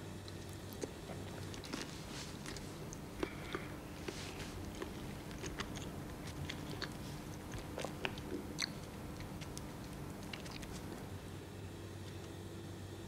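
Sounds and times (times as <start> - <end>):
person chewing crunchy bread: 0.0 - 11.2.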